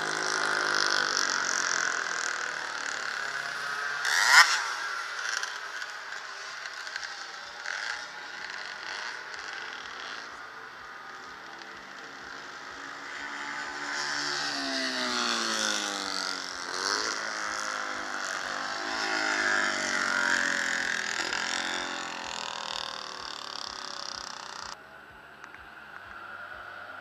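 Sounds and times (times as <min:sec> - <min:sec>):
racing cars passing at speed: 0:00.0 - 0:27.0.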